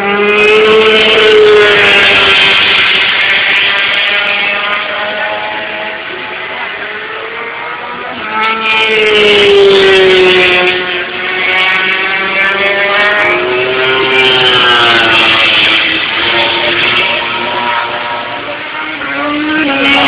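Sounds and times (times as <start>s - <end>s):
racing motorcycle engines revving: 0.0s - 20.0s.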